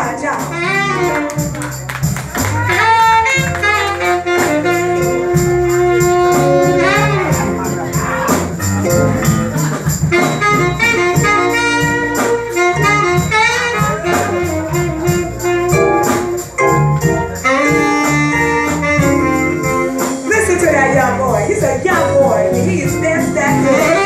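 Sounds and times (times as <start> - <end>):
jazz band playing: 0.0 - 24.0
horn soloing: 0.2 - 1.7, 2.4 - 24.0.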